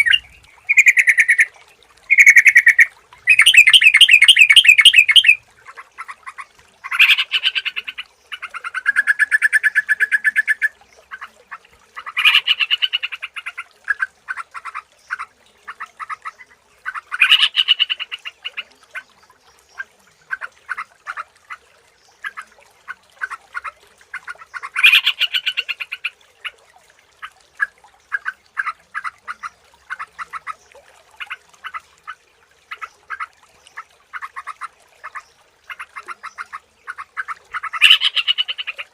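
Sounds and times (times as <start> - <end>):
bird song bubbly bursts: 0.0 - 6.2, 6.8 - 11.3, 15.9 - 38.9.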